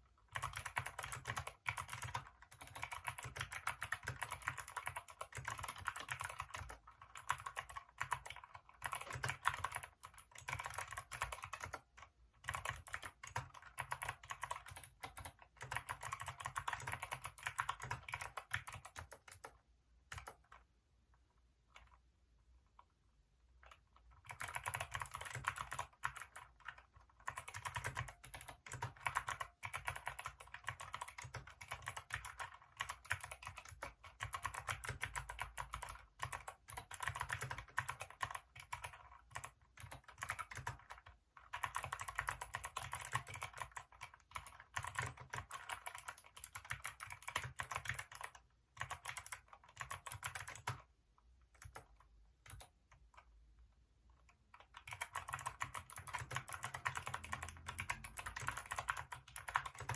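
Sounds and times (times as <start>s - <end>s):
mechanical keyboard typing: 0.3s - 20.7s, 23.6s - 50.9s, 51.5s - 53.3s, 54.2s - 59.9s.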